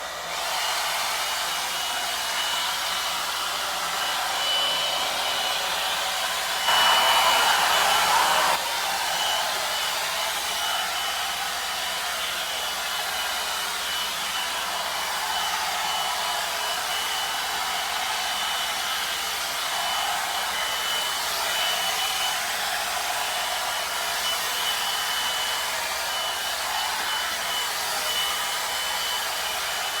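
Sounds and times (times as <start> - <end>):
hair dryer brush running: 0.0 - 30.0.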